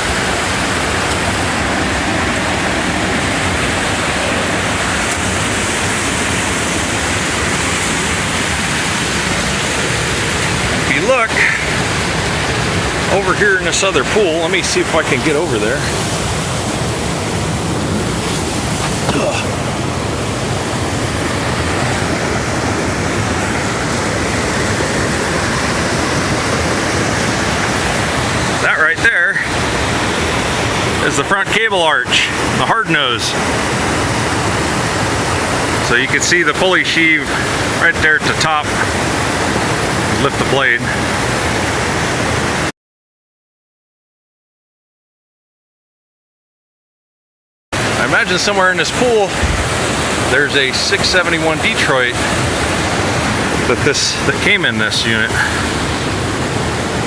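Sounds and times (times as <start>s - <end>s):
water rushing over rocks: 0.0s - 42.7s, 47.8s - 57.0s.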